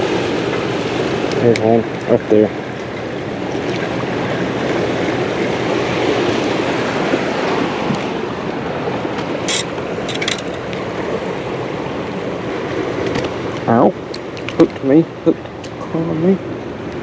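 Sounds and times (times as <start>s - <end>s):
water rushing against a wall: 0.0s - 17.0s.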